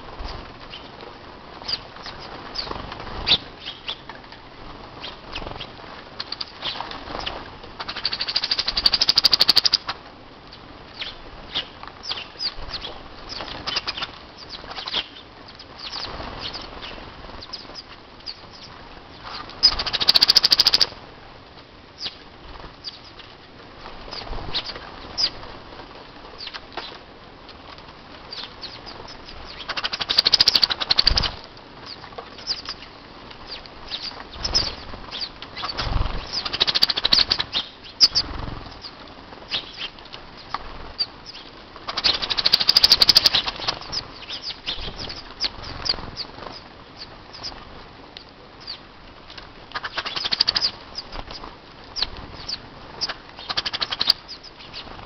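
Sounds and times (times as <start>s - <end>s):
birds chirping: 0.0s - 4.2s, 4.9s - 21.0s, 22.8s - 23.4s, 24.1s - 25.4s, 28.2s - 47.6s, 48.2s - 48.9s, 49.7s - 55.0s
birds flapping wings: 0.1s - 10.1s, 11.4s - 15.1s, 15.9s - 17.9s, 19.2s - 21.0s, 22.4s - 47.8s, 49.2s - 55.0s.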